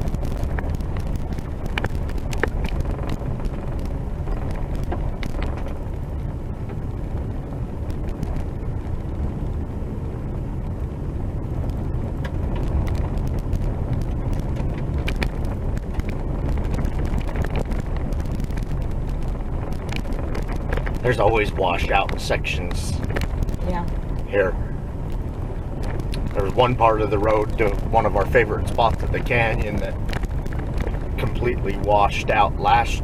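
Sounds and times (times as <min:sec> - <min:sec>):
vehicle rumbling on dirt road: 0:00.0 - 0:33.0.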